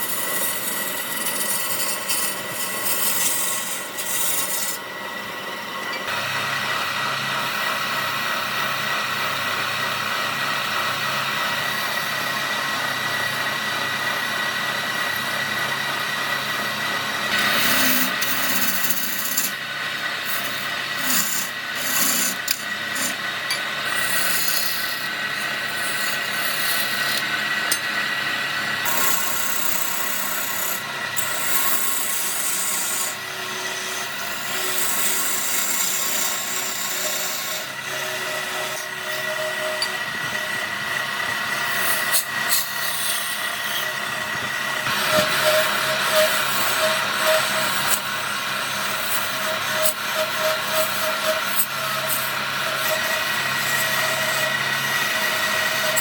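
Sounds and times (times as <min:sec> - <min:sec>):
power tool sanding wood: 0:00.0 - 0:05.2, 0:09.9 - 0:56.0.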